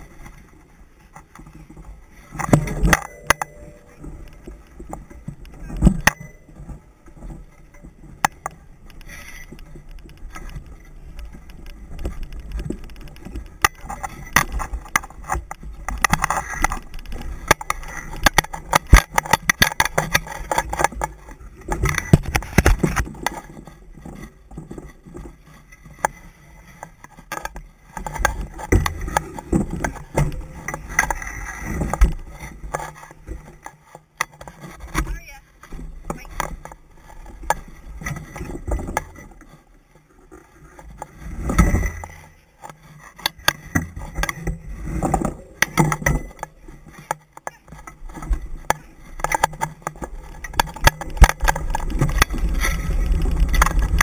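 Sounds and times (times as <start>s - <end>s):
wheeled rig rumbling over dirt: 0.0s - 54.0s.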